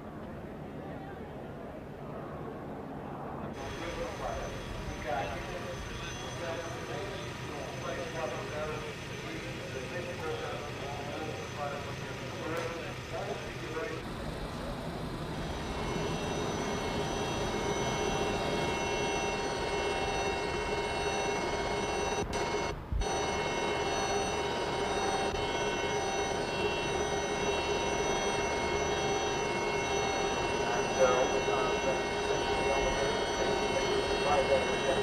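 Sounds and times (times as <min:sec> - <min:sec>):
racing car engines running: 0:03.6 - 0:35.0.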